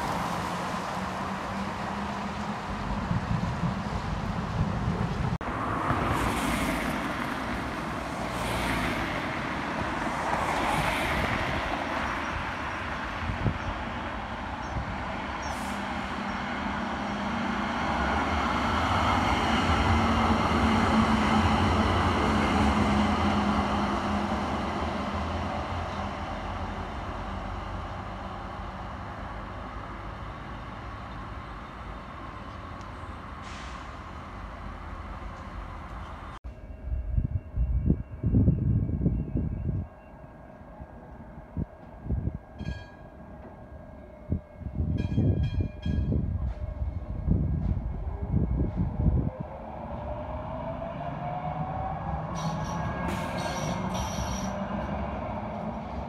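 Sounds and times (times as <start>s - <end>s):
road vehicles passing: 0.0s - 36.4s, 46.1s - 56.0s
tram humming on rails: 0.0s - 56.0s.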